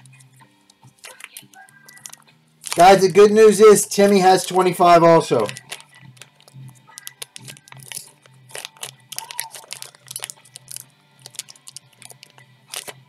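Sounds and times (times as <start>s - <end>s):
crinkling and sharp clicks: 0.0s - 3.0s, 5.3s - 13.0s.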